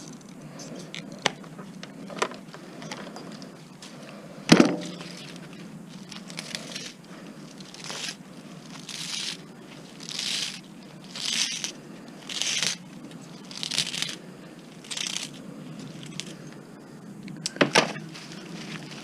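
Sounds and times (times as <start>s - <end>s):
scraping and handling noise: 0.0s - 14.2s, 17.5s - 19.0s.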